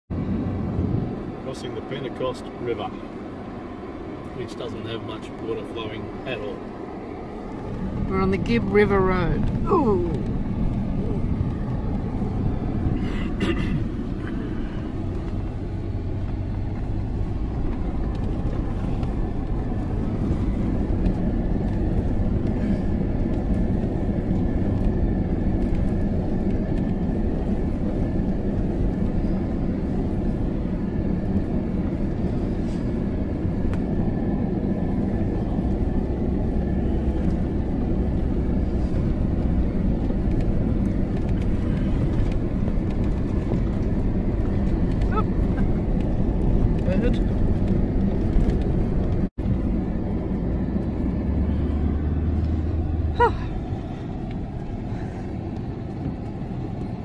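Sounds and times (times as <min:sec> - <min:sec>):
vehicle engine and tyres on rocks: 0:00.1 - 0:57.0.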